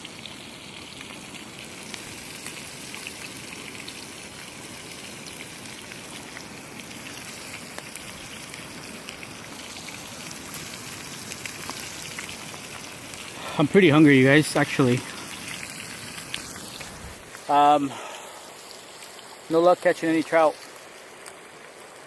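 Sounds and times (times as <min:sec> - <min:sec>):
fish sizzling in a frying pan: 0:00.0 - 0:22.0.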